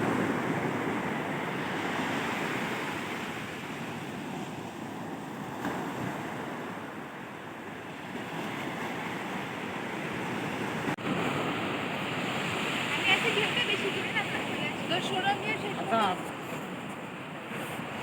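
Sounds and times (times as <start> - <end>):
surf washing onto beach: 0.0 - 18.0.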